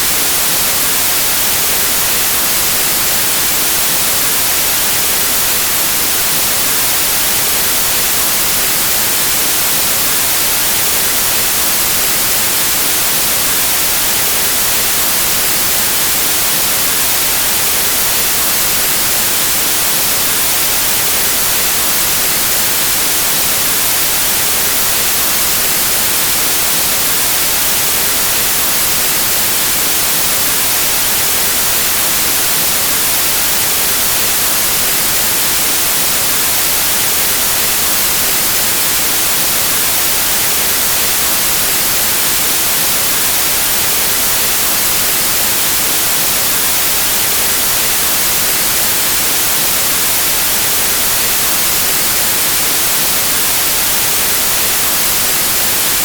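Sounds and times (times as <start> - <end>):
white noise static hiss: 0.0 - 56.0.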